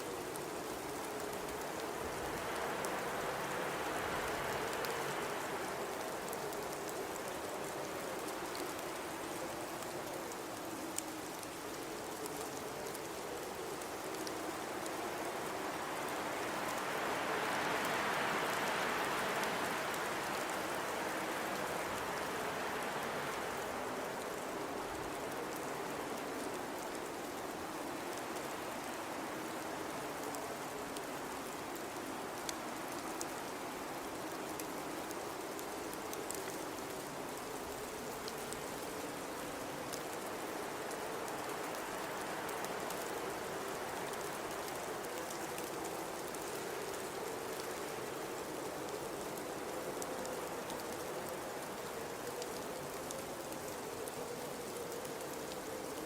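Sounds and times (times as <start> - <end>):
faint low wind howl: 0.0 - 56.0.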